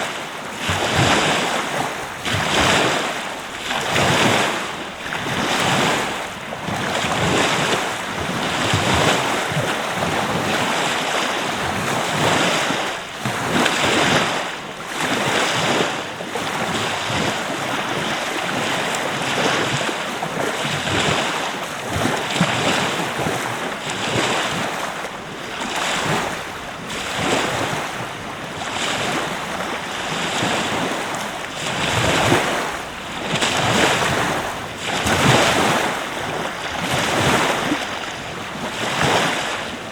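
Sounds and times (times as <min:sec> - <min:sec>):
surf washing onto beach: 0:00.0 - 0:39.9.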